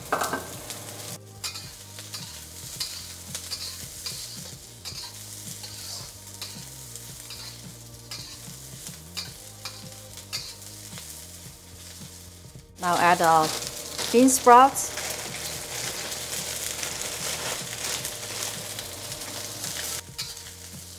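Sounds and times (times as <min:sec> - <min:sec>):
food sizzling in hot oil: 0:00.0 - 0:20.9
metal spatula scraping wok: 0:00.1 - 0:20.9.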